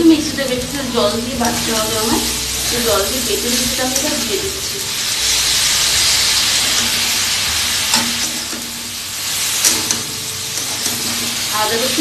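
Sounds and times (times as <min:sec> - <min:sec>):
paste sizzling in hot oil: 0:00.1 - 0:12.0.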